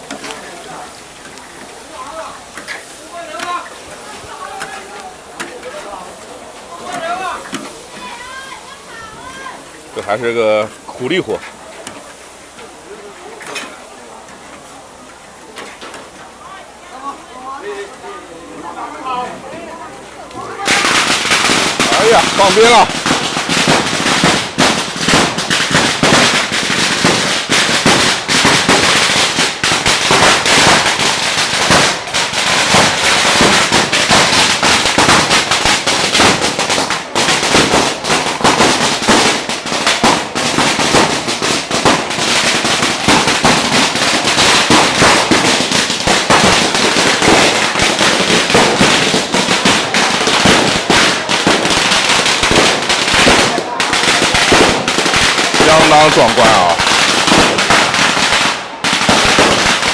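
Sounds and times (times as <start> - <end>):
firecrackers crackling: 0.0 - 59.9.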